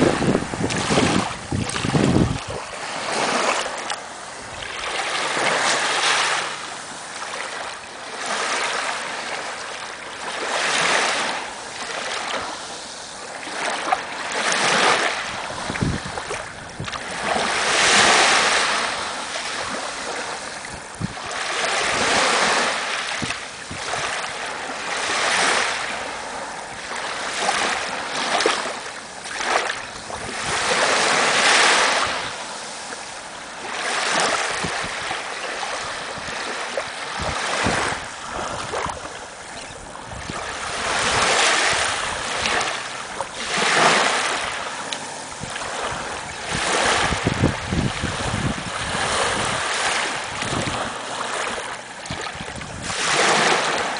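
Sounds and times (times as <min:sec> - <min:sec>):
small waves lapping on sand: 0:00.0 - 0:53.9.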